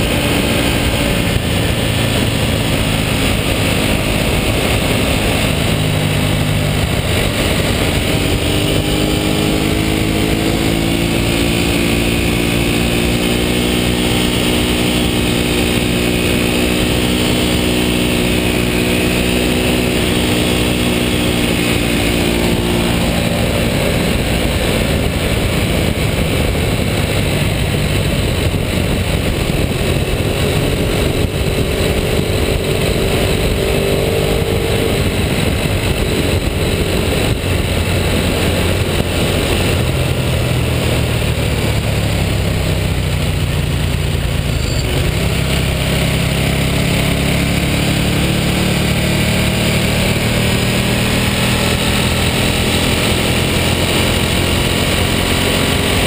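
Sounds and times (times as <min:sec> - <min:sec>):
motorcycle engine: 0:00.0 - 0:56.0
wind and road rush: 0:00.0 - 0:56.0.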